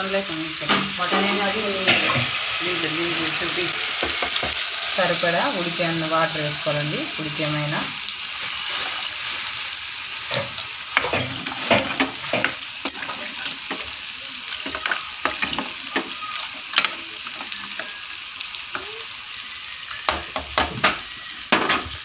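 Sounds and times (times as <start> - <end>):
curry sizzling in pot: 0.0 - 22.0
pressure cooker hiss: 0.0 - 22.0.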